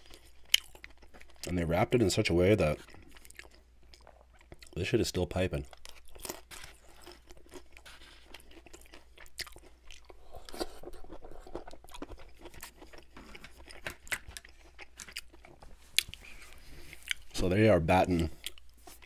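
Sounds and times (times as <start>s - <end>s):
chewing and crunching: 0.0s - 19.0s.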